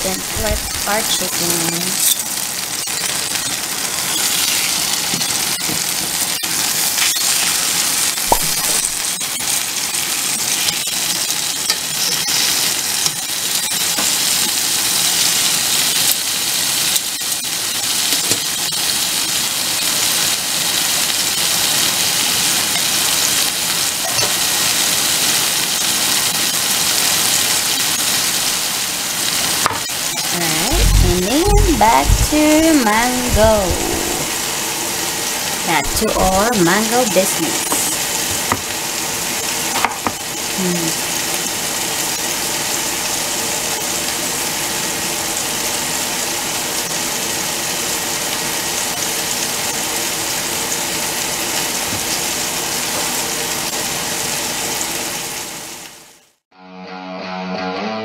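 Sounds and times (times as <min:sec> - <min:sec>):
chicken sizzling in a pan: 0:00.0 - 0:56.4.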